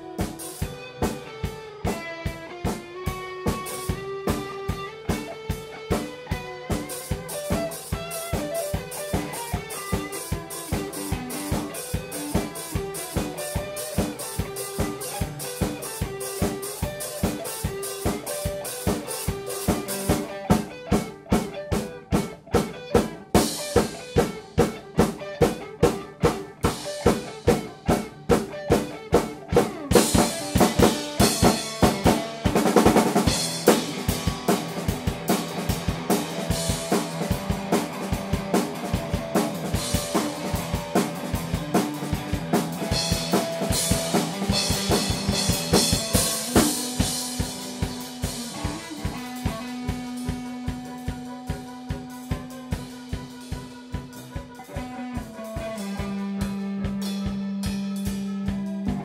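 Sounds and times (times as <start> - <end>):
drum kit beat: 0.0 - 59.0
held guitar notes: 0.0 - 59.0.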